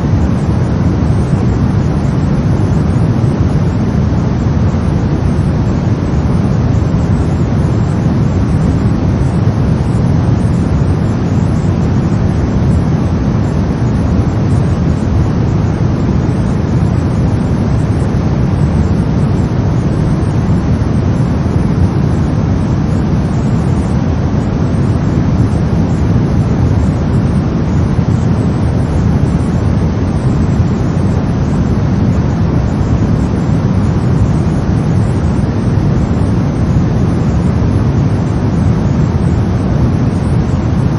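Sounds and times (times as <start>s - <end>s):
brown noise: 0.0s - 40.9s.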